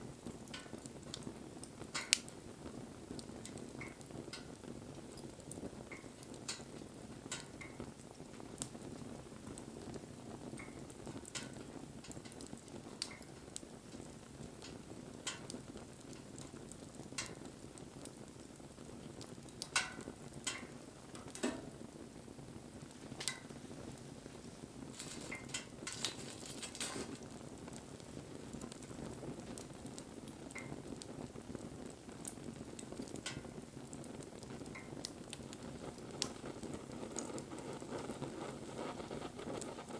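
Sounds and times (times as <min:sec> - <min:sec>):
fire crackles and pops: 0:00.0 - 0:39.9
fire flame rushing: 0:00.2 - 0:39.9.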